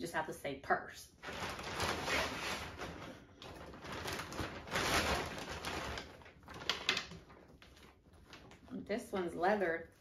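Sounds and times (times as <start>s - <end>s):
plastic bag rustling: 1.2s - 10.0s.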